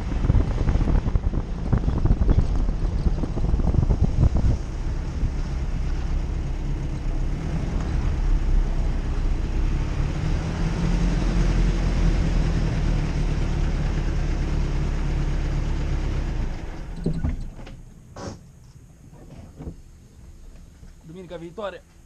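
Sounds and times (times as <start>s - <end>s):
car engine drone: 0.0s - 22.0s
road and wind noise: 0.0s - 22.0s.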